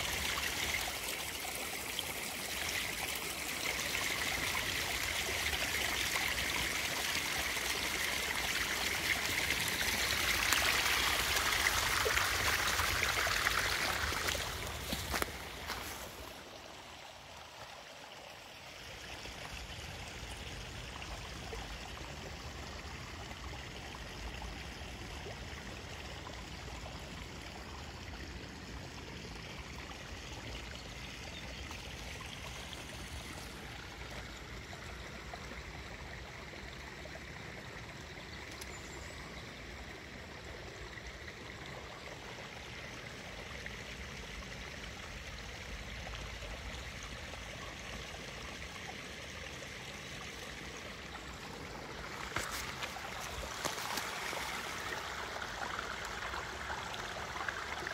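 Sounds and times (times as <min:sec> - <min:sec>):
stream water rushing: 0:00.0 - 0:23.3, 0:27.2 - 0:39.0, 0:39.6 - 0:57.9.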